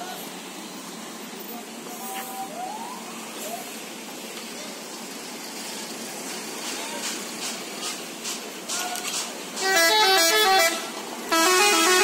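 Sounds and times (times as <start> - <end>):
bus engine idling: 0.0 - 12.0
street and crowd noise: 0.0 - 12.0.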